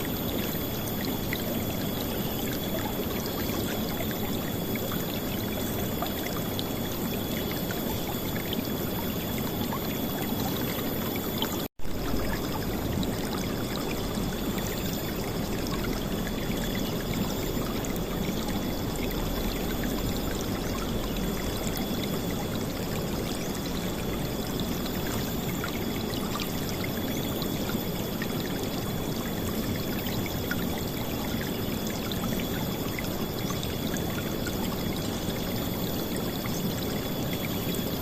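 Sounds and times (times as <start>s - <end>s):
river water flowing and splashing: 0.0s - 38.0s.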